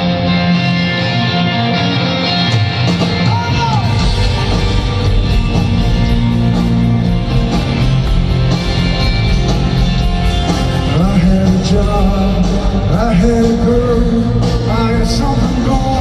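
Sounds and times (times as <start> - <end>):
bass: 0.0 - 16.0
electric guitar: 0.0 - 16.0.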